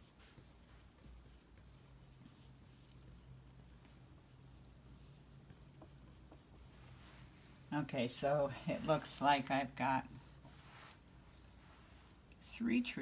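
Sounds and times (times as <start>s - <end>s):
paint brush scratching on canvas: 0.0s - 7.4s, 8.4s - 12.0s
low room tone hum: 0.0s - 13.0s.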